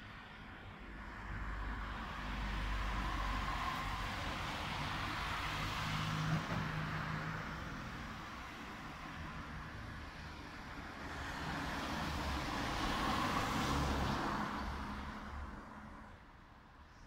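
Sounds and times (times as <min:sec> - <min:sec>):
cars driving past: 0:00.6 - 0:16.4.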